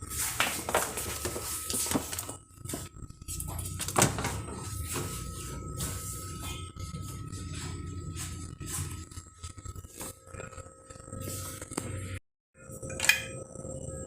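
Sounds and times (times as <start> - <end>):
faint refrigerator hum: 0.0 - 14.0.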